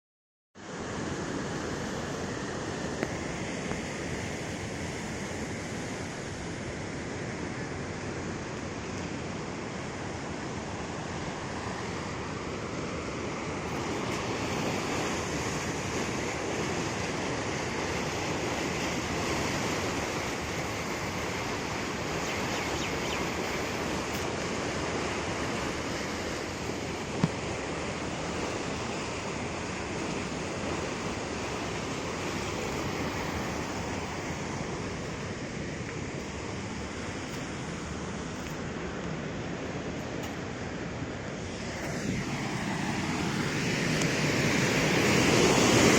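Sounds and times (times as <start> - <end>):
river water rushing: 0.6 - 45.9.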